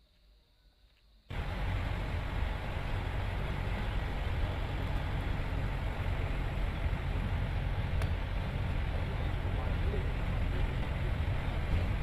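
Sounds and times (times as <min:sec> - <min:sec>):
vehicle engine and road noise: 0:01.3 - 0:12.0.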